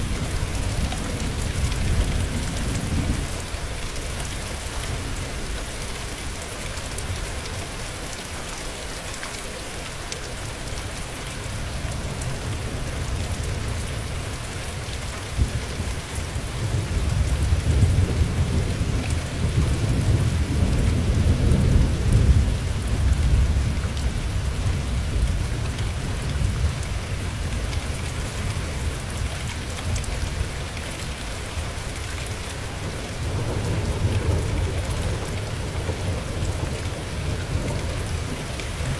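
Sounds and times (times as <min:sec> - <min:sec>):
low rumble of thunder: 0:00.0 - 0:05.6, 0:11.6 - 0:31.9, 0:32.6 - 0:38.9
steady rain: 0:00.0 - 0:38.9.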